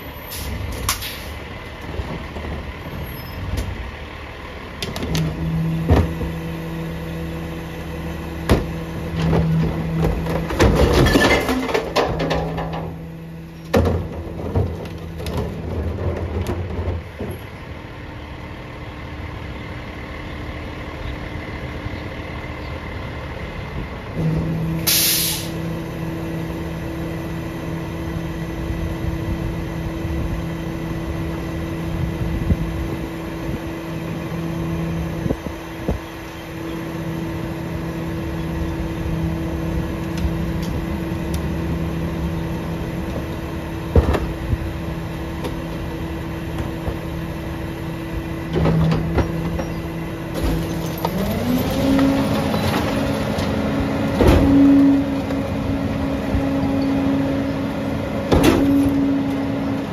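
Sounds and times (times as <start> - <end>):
garbage truck engine idling: 1.1 - 59.9.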